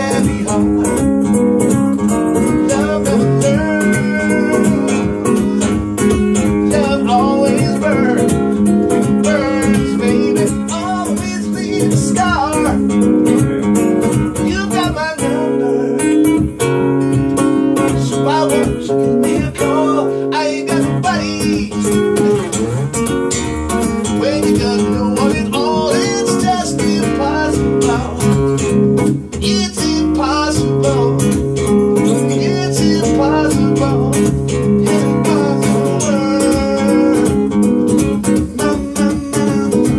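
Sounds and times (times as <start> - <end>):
acoustic guitar strummed and picked: 0.0 - 39.9.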